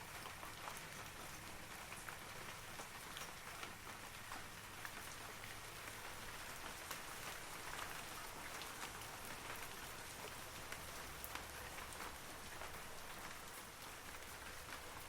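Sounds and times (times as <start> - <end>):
raindrops pattering: 0.0 - 15.0
steady rain falling: 0.0 - 15.0.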